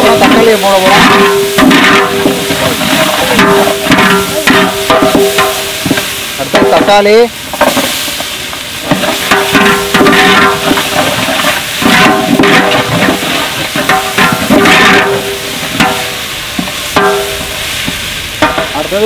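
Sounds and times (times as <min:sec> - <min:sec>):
tomatoes sizzling in hot oil: 0:00.0 - 0:19.0.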